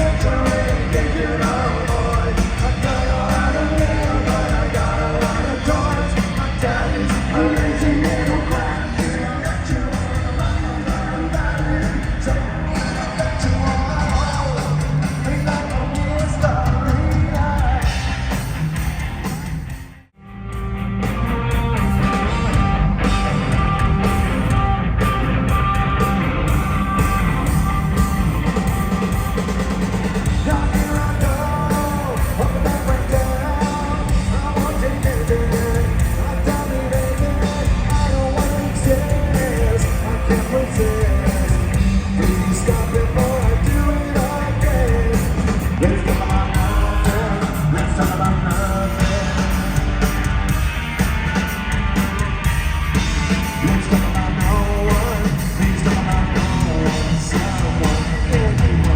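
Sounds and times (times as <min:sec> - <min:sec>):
punk rock band playing: 0:00.0 - 0:58.9.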